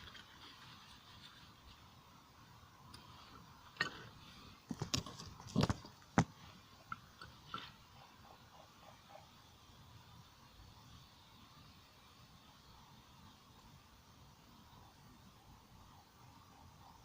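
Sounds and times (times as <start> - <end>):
faint steady hiss with whine: 0.0 - 17.0.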